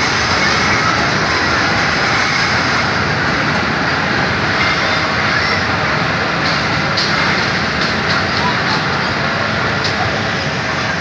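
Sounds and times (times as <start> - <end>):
electric train running on tracks: 0.0 - 11.0.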